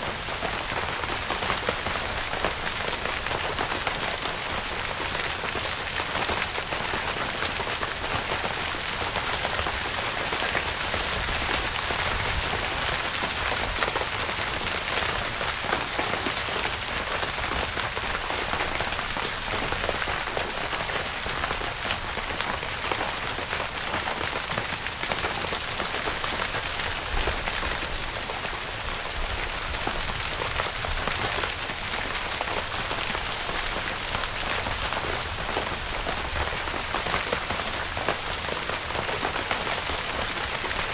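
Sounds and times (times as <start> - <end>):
rain on tent fabric: 0.0 - 40.9.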